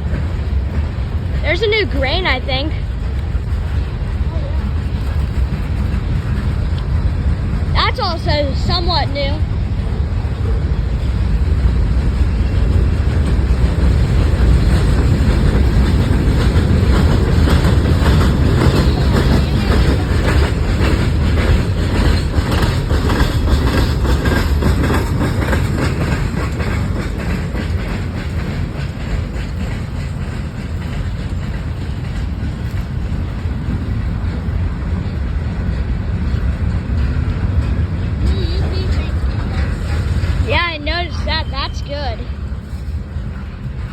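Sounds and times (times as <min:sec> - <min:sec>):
train cars rumbling past: 0:00.0 - 0:43.9
wheels clicking over rail joints: 0:00.0 - 0:43.9.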